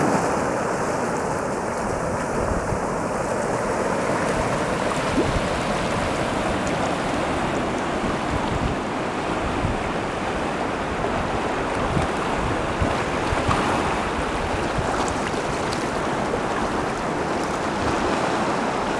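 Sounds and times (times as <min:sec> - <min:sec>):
surf washing over rocks: 0:00.0 - 0:18.9.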